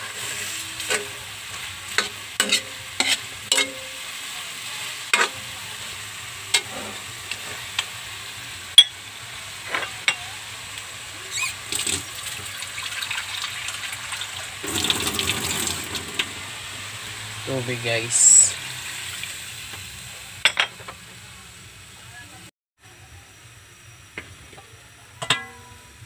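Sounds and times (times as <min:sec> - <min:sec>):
meat sizzling in a wok: 0:00.0 - 0:26.0.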